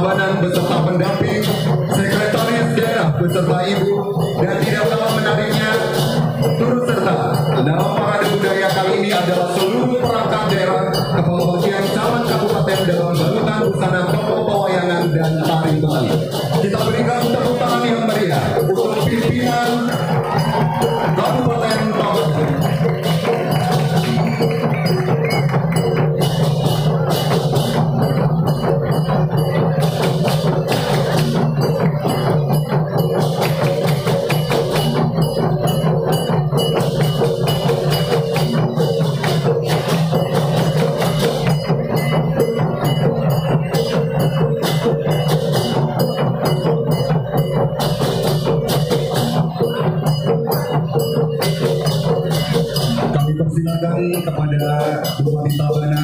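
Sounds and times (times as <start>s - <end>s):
clatter of wooden bells: 0.0s - 56.0s.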